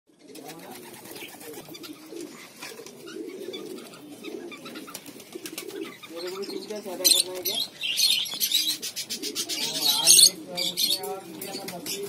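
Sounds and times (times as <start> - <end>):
pigeon cooing: 0.1 - 12.0.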